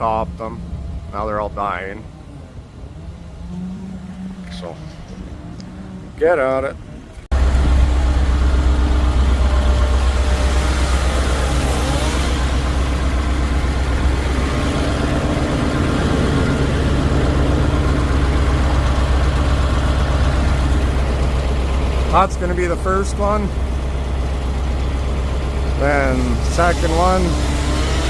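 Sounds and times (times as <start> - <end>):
heavy engine running steadily: 0.0 - 28.0.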